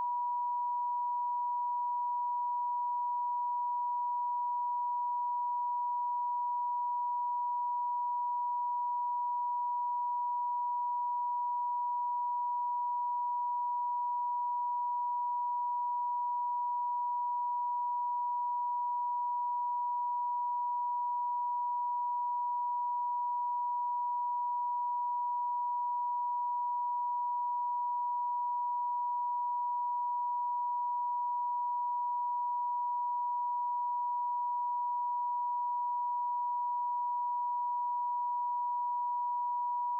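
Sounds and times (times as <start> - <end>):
electronic sine tone: 0.0 - 39.9.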